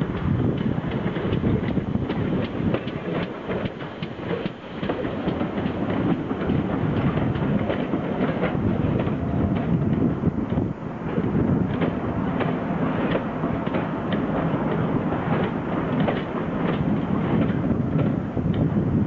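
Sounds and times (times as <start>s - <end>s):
wheels clicking over rail joints: 0.0s - 18.8s
train rumbling past: 0.0s - 19.0s.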